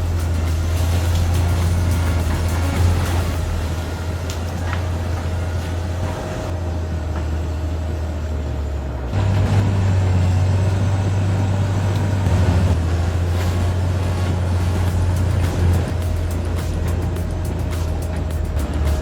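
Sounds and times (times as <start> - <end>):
heavy machine engine rumbling: 0.0 - 19.0.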